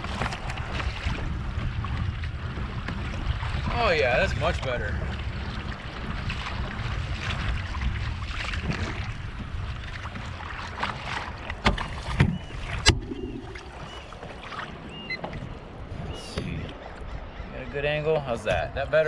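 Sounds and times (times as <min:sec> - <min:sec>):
wind on microphone: 0:00.0 - 0:17.6
water noise: 0:00.0 - 0:19.0.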